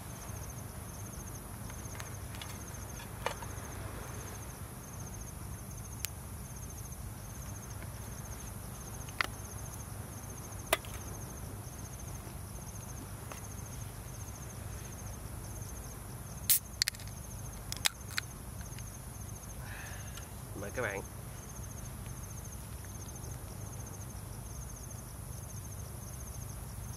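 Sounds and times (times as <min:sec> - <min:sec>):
crickets chirping: 0:00.0 - 0:26.9
high insect buzz: 0:00.0 - 0:26.9.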